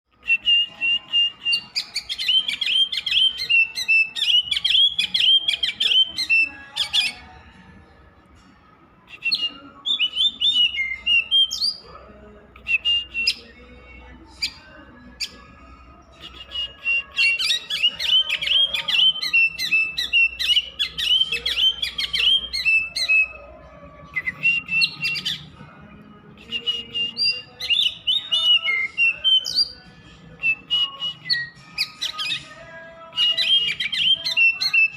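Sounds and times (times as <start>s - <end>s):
bird singing whistled notes: 0.1s - 7.5s, 9.0s - 11.8s, 12.6s - 25.6s, 26.4s - 34.9s.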